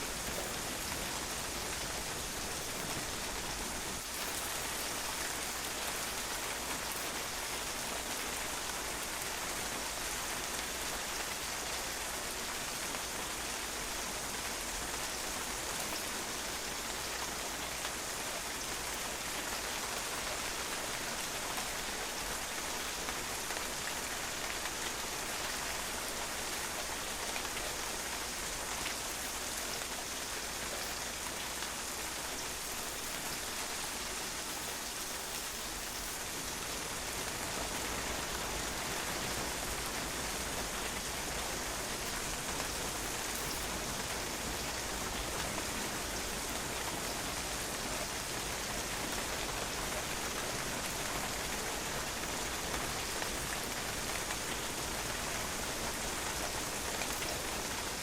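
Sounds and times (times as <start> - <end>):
rain pattering on a patio: 0.0 - 58.0.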